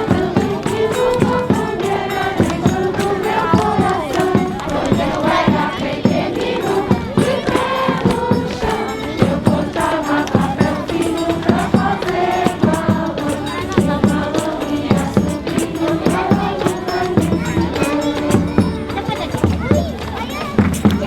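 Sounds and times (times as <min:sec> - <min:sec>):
group singing: 0:00.0 - 0:19.3
percussion beating: 0:00.0 - 0:21.0.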